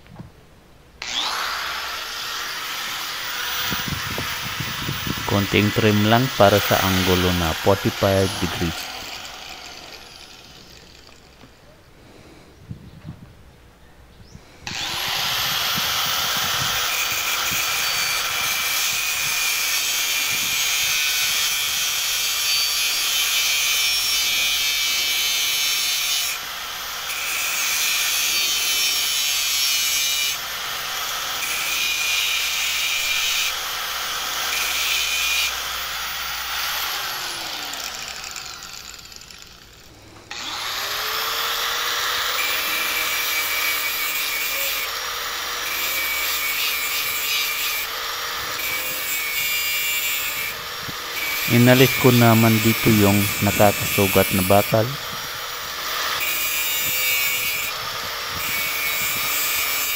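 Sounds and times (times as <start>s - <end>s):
angle grinder grinding steel: 1.0s - 11.5s, 14.6s - 59.9s.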